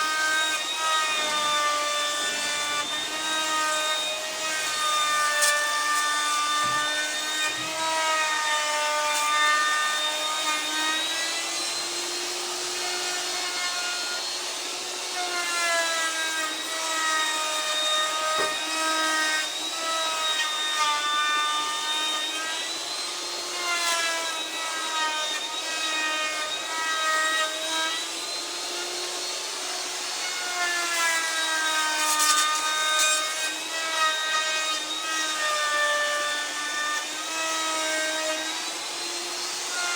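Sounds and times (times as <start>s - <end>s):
power tool motor whine: 0.0s - 39.9s
wood cutting noise: 0.0s - 39.9s.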